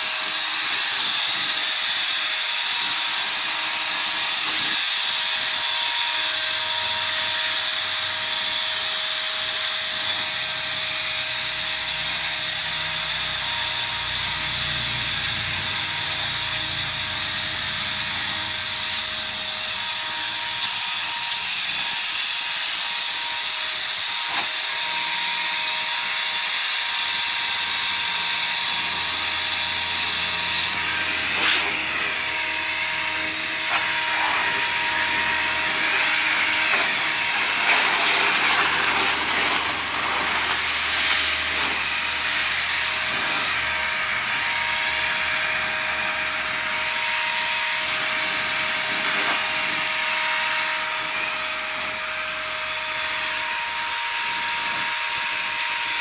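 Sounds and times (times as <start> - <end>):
leaf blower running: 0.0 - 56.0.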